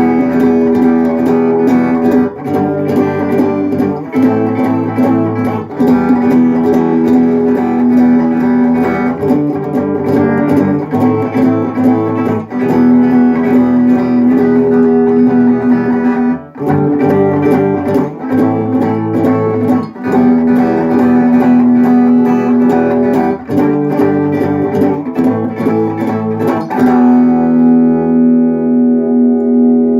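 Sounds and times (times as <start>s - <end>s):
guitar strumming chords: 0.0s - 29.9s.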